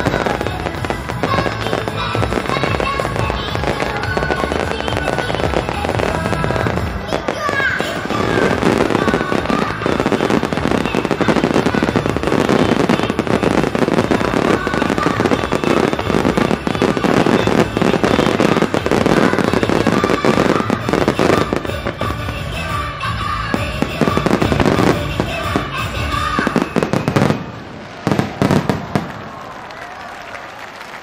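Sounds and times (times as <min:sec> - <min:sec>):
music: 0:00.0 - 0:27.3
fireworks bursting and crackling: 0:00.0 - 0:31.0.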